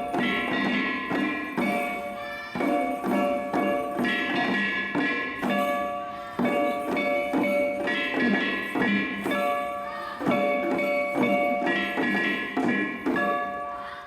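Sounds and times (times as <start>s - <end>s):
rhythmic percussion strikes: 0.0s - 14.0s
ringing metallic tones: 0.0s - 14.0s.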